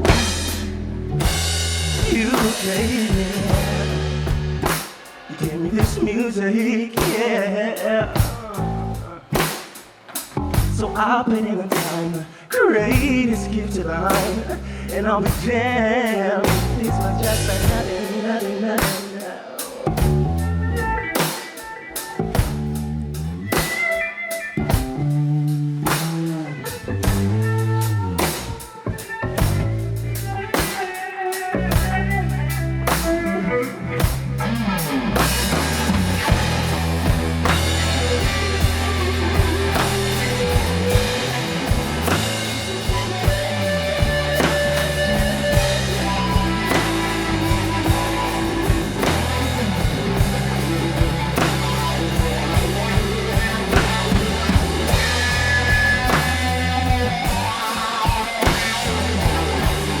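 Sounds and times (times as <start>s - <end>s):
drum kit: 0.0s - 13.4s, 14.0s - 15.6s, 16.4s - 60.0s
bass guitar: 0.0s - 19.0s, 19.8s - 60.0s
guitar: 0.0s - 60.0s.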